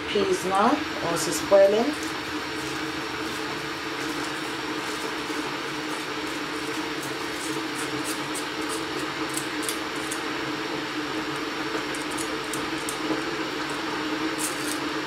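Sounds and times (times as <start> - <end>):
pot boiling: 0.0 - 15.0.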